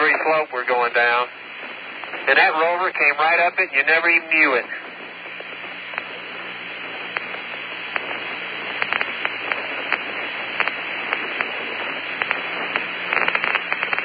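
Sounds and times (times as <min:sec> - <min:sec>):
crackling clicks: 0:00.0 - 0:14.0
radio hiss and static: 0:00.0 - 0:14.0.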